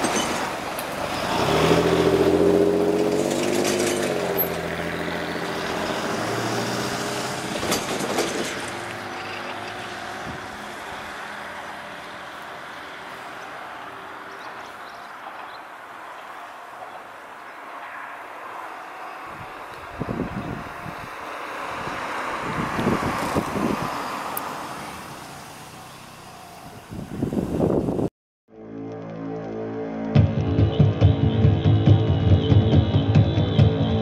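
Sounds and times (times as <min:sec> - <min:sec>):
diesel railcar engine drone: 0:00.0 - 0:27.6, 0:28.8 - 0:34.0.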